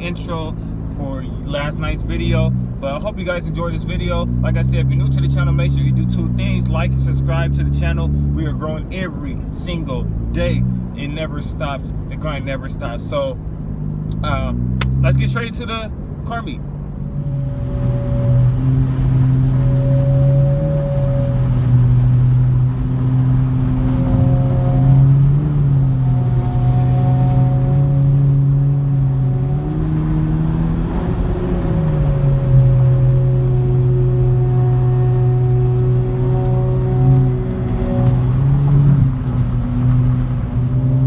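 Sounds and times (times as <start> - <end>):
car engine droning: 0.0 - 41.0
road noise inside car: 0.0 - 41.0.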